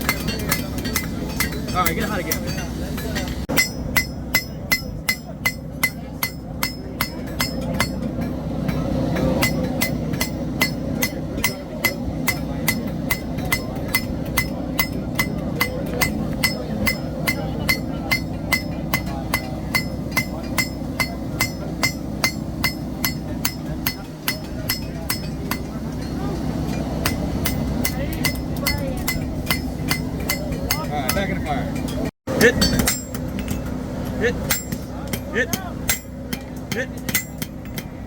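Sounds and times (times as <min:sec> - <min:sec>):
hammer striking steel on anvil: 0:00.0 - 0:38.0
steady low rumble: 0:00.0 - 0:38.0.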